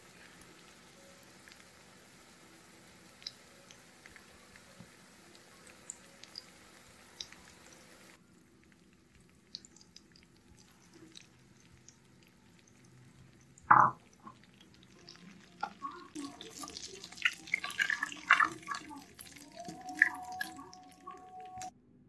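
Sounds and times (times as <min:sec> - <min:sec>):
prawns frying in oil: 0:00.0 - 0:21.7
spatula turning food in pan: 0:00.0 - 0:21.7.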